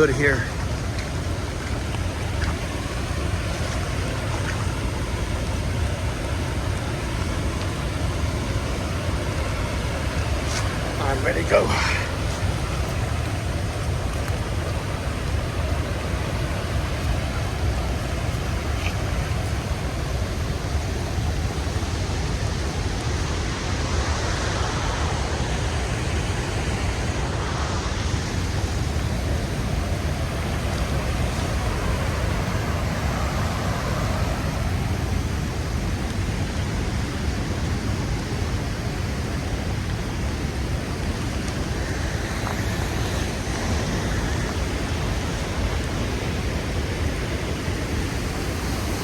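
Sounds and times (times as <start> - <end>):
waterfall rushing: 0.0 - 49.0
wind on microphone: 0.0 - 49.0.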